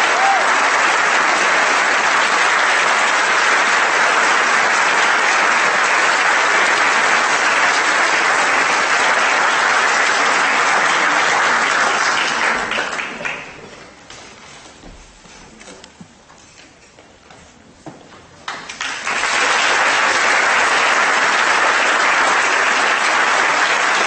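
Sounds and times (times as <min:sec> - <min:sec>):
audience applauding: 0:00.0 - 0:13.8, 0:18.5 - 0:24.0.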